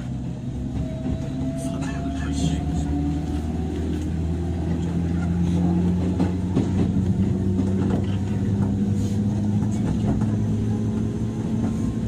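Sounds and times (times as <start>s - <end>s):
train motor hum: 0.0s - 12.0s
wheels rumbling on rails: 0.0s - 12.0s.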